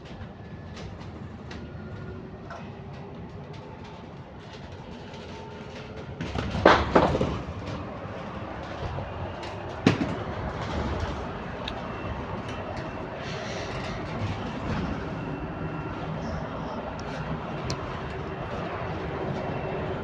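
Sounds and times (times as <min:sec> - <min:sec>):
bus interior rumble: 0:00.0 - 0:20.0.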